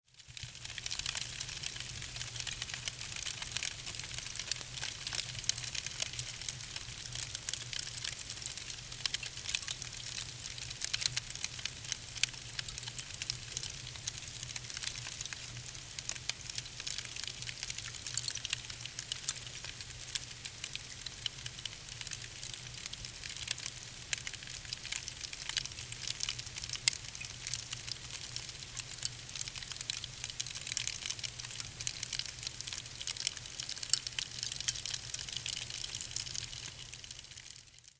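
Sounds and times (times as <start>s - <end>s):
fire crackling: 0.2s - 37.9s.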